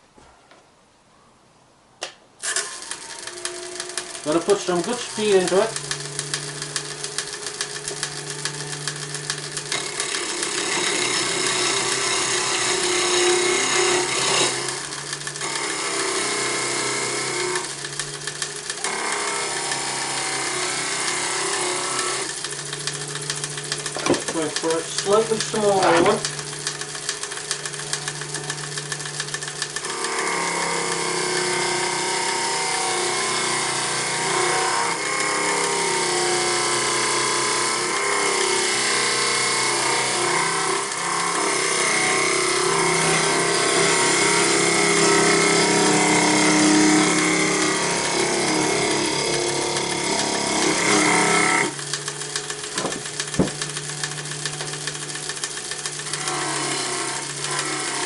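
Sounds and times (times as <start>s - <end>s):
turning tool cutting wood: 2.4s - 58.0s
wood lathe motor hum: 2.4s - 58.0s.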